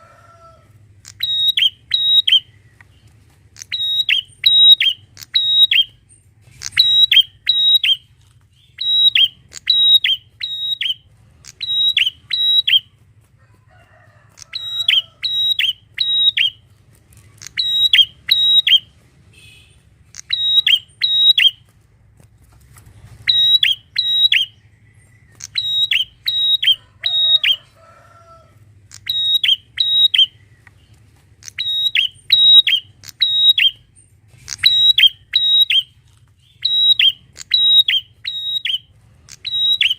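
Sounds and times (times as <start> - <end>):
bird chirping sharply: 1.0 - 2.8, 3.6 - 12.9, 14.4 - 16.6, 17.4 - 21.6, 23.2 - 27.6, 28.9 - 39.9.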